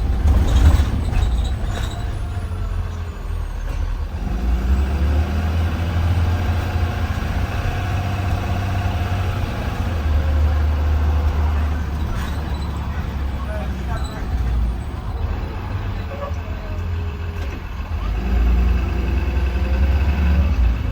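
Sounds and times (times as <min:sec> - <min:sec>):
bus engine and road rumble: 0:00.0 - 0:20.9.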